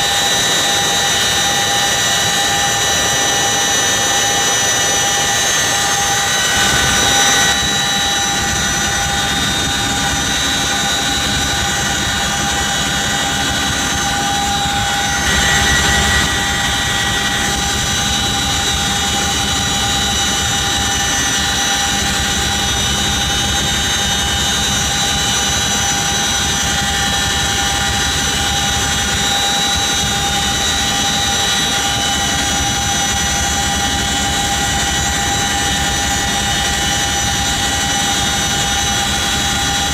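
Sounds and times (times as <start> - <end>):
helicopter turbine whine: 0.0 - 39.9
rotor and wind noise: 0.0 - 39.9.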